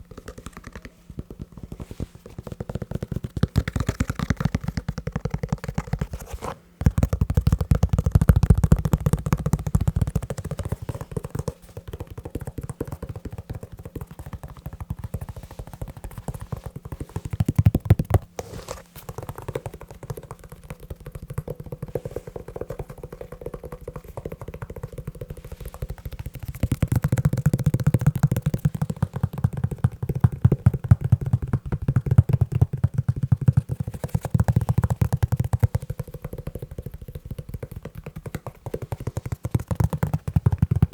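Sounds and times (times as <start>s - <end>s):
tapping on leather shoe: 6.8s - 18.4s, 19.1s - 40.9s.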